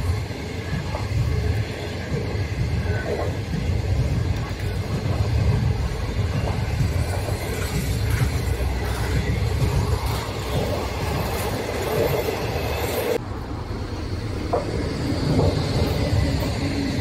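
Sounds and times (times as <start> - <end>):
approaching train rumble: 0.0 - 17.0
train wheels rumbling on rails: 0.0 - 17.0.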